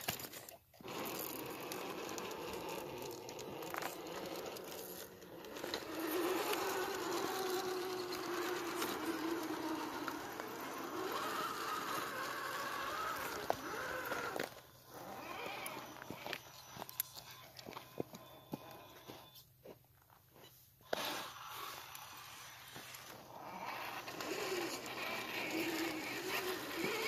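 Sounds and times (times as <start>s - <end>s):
electric motor whining: 0.8s - 19.2s, 20.9s - 27.0s.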